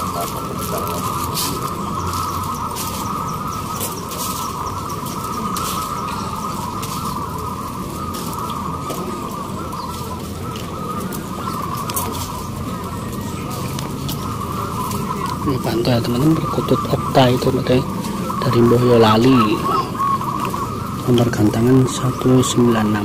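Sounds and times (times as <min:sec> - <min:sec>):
doves cooing in chorus: 0:00.0 - 0:23.0.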